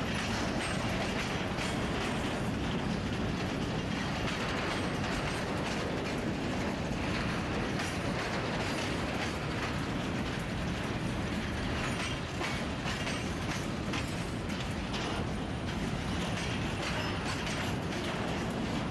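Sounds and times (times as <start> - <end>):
freight train rumbling: 0.0 - 18.9
train wheels clicking and rattling: 0.0 - 18.9.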